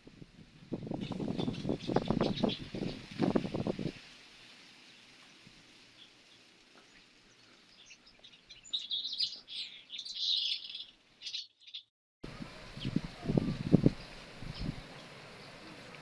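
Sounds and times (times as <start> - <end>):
faint breeze: 0.0 - 16.0
songbird chirping: 1.0 - 3.6, 4.9 - 16.0.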